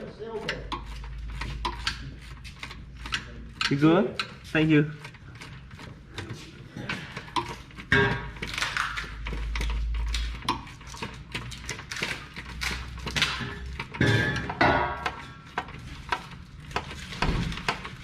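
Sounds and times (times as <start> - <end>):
metal tools knocking on car parts: 0.0 - 18.0.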